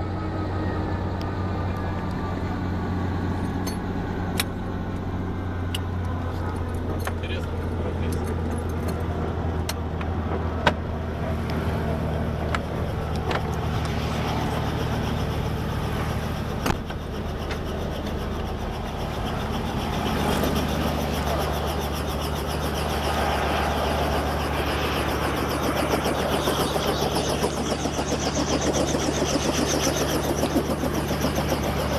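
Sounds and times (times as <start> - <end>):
helicopter rotor drone: 0.0 - 31.9.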